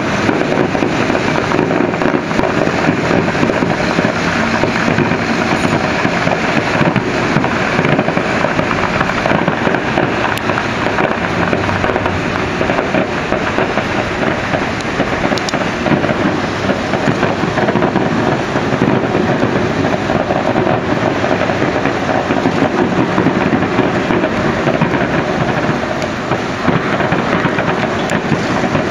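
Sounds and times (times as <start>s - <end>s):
fireworks bursting and crackling: 0.0s - 28.9s.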